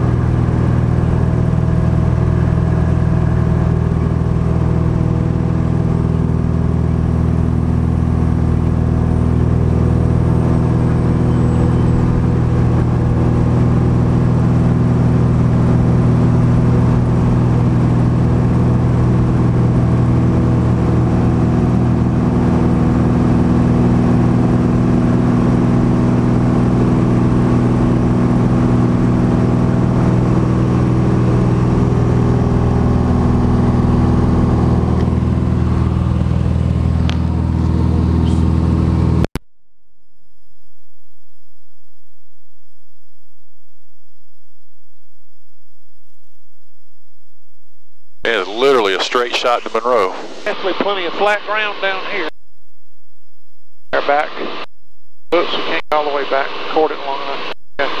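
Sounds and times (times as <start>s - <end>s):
propeller plane engine drone: 0.0s - 39.3s, 48.2s - 52.3s, 53.2s - 54.7s, 55.3s - 58.0s.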